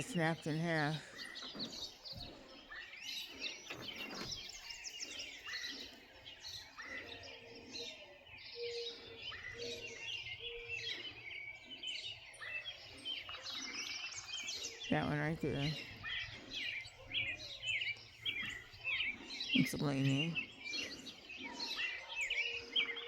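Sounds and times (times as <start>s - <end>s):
birds chirping and singing: 0.0s - 23.0s
faint outdoor background noise: 0.0s - 23.0s.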